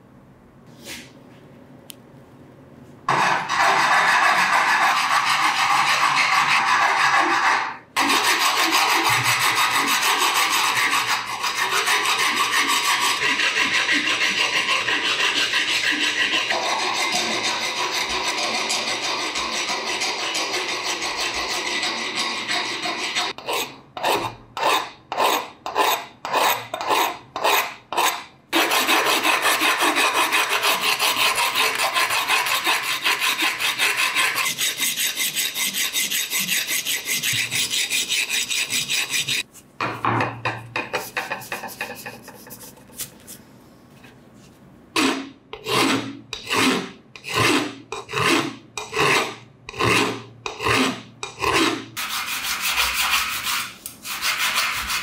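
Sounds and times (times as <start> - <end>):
hand file rasping on steel: 3.1 - 39.5, 45.0 - 55.0.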